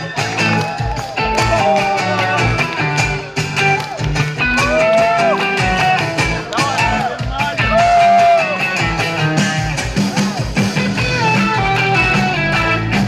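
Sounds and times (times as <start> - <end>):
bass: 0.0 - 13.0
drum beat: 0.0 - 13.0
lead guitar bending notes: 0.0 - 13.0.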